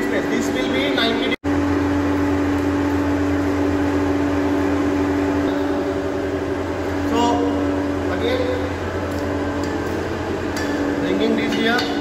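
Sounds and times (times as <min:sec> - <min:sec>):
electric blower humming: 0:01.5 - 0:11.1.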